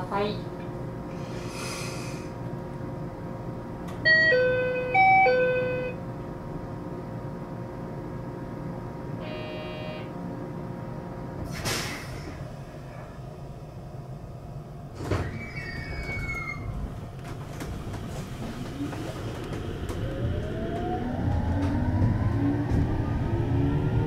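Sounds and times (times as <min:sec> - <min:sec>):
train humming: 0:00.0 - 0:15.1, 0:15.8 - 0:24.0.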